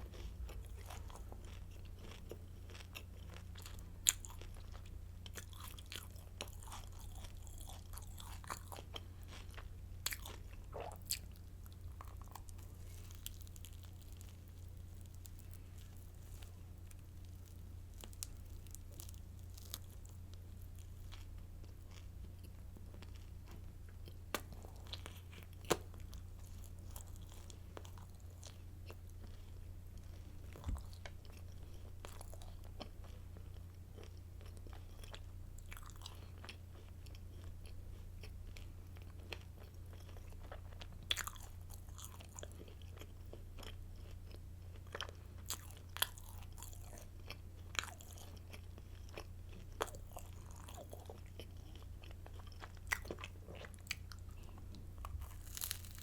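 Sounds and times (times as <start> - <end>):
crunchy bread being chewed: 0.0 - 56.0
low electrical hum: 0.0 - 56.0.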